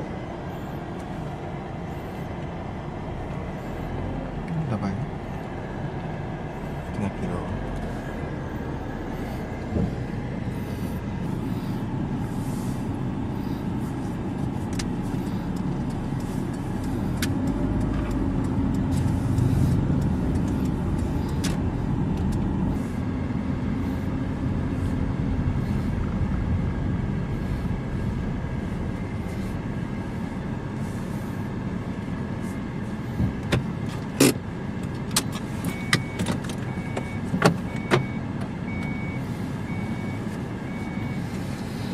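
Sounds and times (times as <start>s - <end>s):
car engine and road noise: 0.0s - 41.9s.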